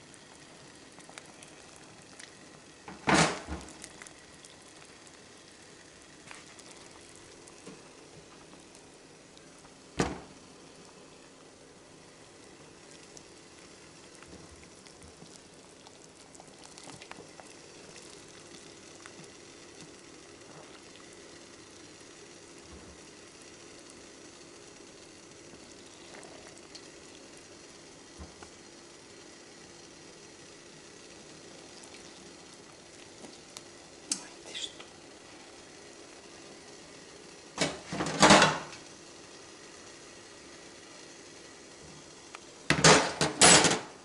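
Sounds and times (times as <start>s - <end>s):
water boiling in a pot: 0.0s - 44.0s.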